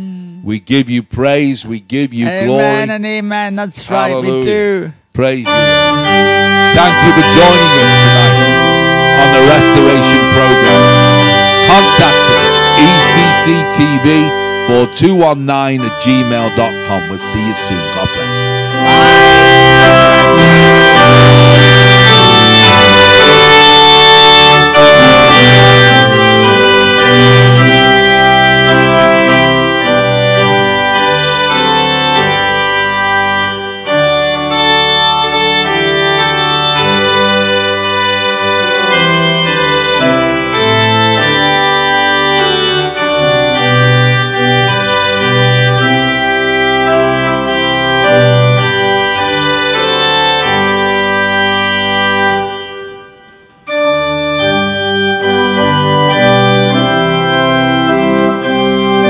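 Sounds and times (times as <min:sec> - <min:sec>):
instrumental music of held chords: 0:02.2 - 0:03.0, 0:03.9 - 0:59.0.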